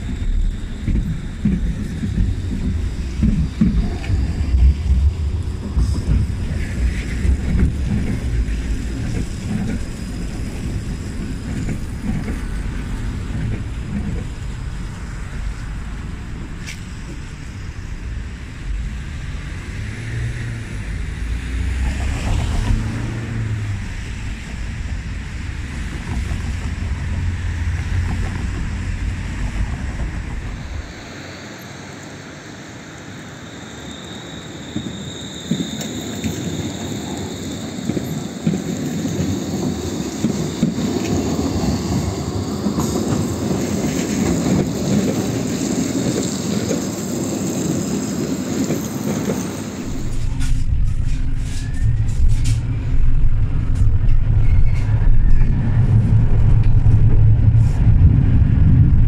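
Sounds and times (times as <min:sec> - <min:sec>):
wind rumbling on microphone: 0:00.0 - 0:31.4, 0:34.8 - 0:59.0
tram rolling over rails: 0:00.0 - 0:59.0.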